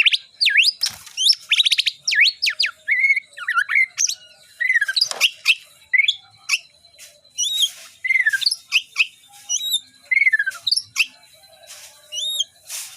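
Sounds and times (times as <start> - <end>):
bird singing whistled phrases: 0.0 - 6.7, 7.3 - 11.2, 12.1 - 12.6.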